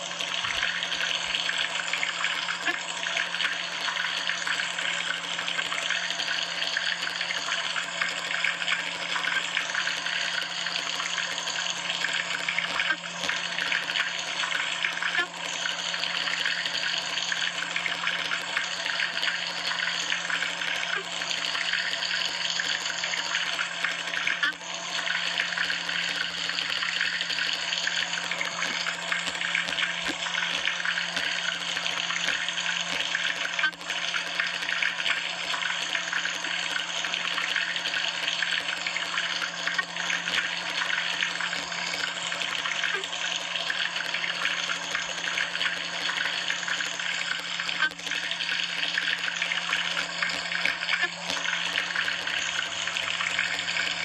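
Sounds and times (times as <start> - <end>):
water running: 0.0 - 54.0.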